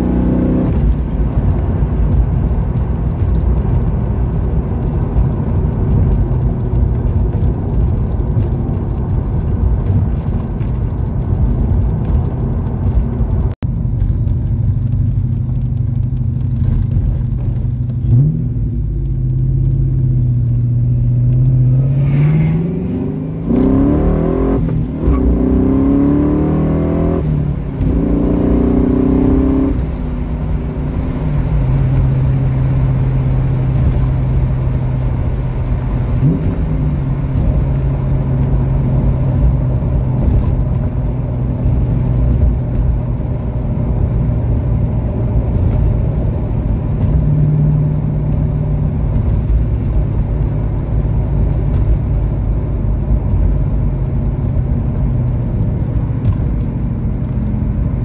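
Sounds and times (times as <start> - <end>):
car engine cruising and accelerating: 0.0 - 58.0
road noise: 0.0 - 58.0.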